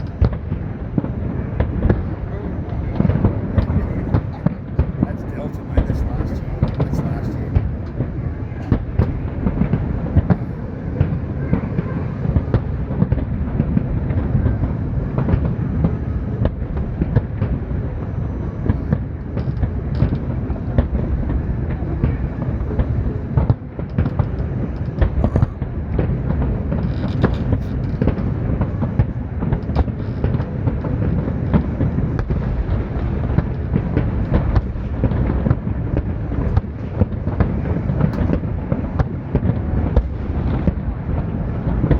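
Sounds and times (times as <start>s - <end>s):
fireworks bangs and crackles: 0.0s - 41.9s
fireworks rumble: 0.0s - 41.9s.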